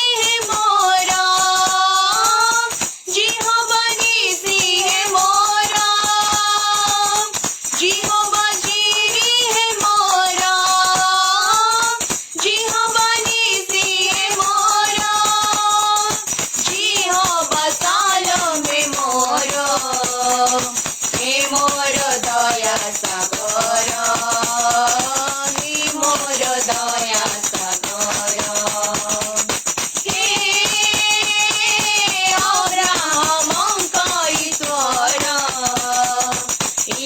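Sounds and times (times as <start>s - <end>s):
fast rattling percussion: 0.0s - 37.0s.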